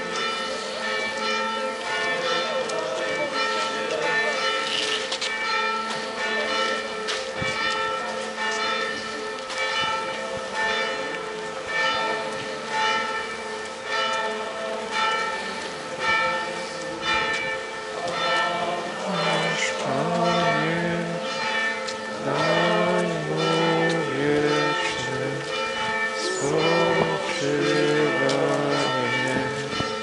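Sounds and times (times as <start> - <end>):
church bells tolling: 0.0 - 30.0.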